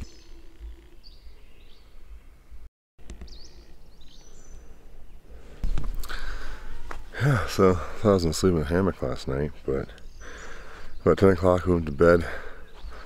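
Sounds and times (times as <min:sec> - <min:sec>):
high sweeping bird calls: 0:00.0 - 0:02.4, 0:03.2 - 0:13.0
small birds chirping: 0:00.0 - 0:13.0.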